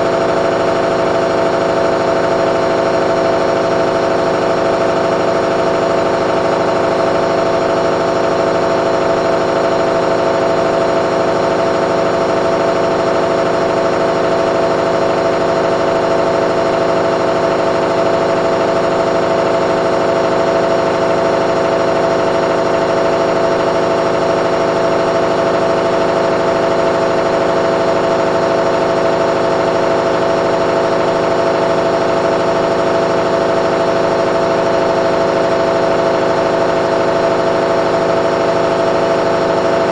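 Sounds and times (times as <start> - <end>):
washing machine spin cycle: 0.0 - 39.9.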